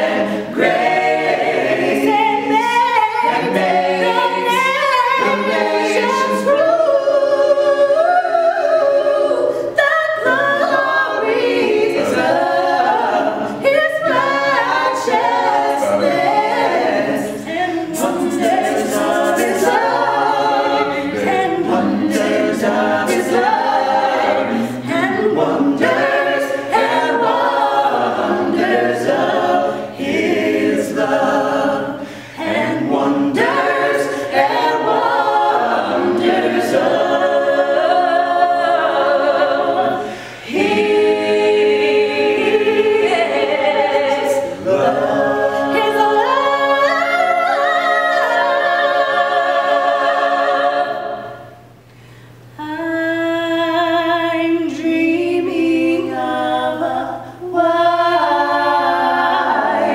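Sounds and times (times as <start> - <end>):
choir singing in harmony: 0.0 - 51.8, 52.4 - 59.9.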